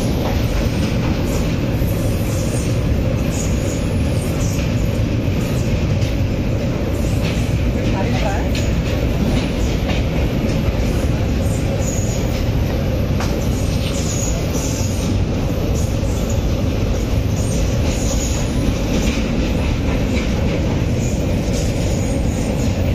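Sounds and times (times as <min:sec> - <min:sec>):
train wheels rumbling: 0:00.0 - 0:22.9.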